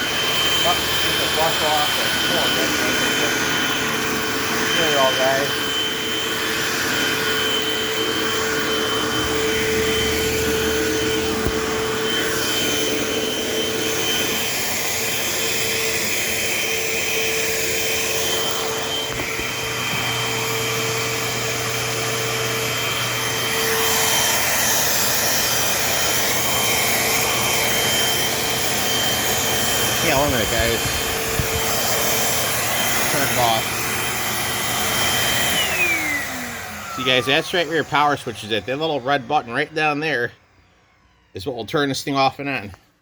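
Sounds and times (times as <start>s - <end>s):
vacuum cleaner motor whine: 0.0s - 43.0s.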